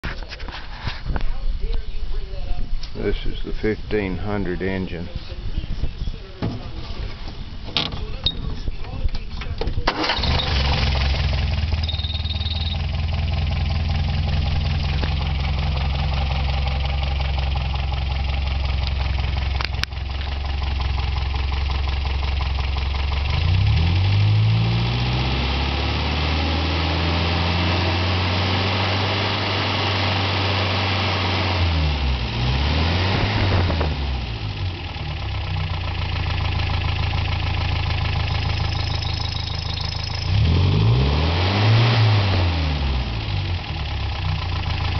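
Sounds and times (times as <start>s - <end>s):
car engine idling and revving: 6.6s - 44.9s.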